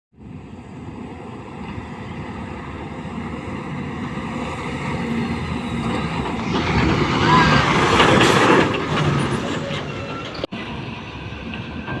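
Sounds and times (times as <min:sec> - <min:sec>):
heavy machinery diesel engine rumble: 0:00.2 - 0:12.0.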